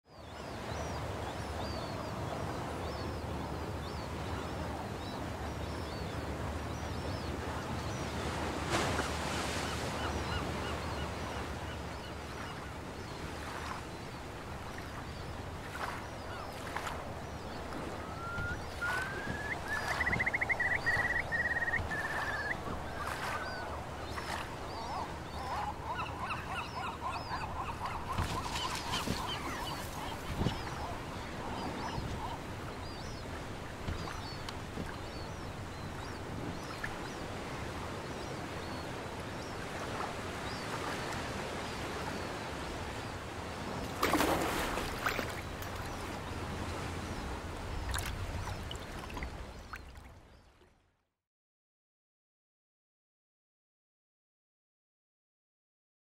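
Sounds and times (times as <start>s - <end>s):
wild birds calling: 0.2s - 49.9s.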